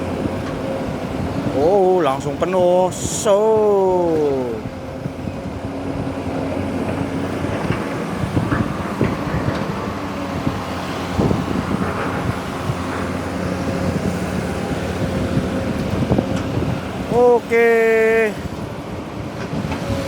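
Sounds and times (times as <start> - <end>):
excavator engine humming: 0.0 - 20.0.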